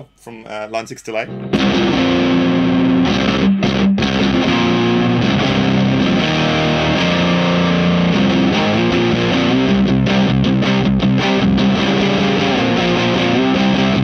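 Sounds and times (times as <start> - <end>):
distorted electric guitar chords: 1.2 - 14.0.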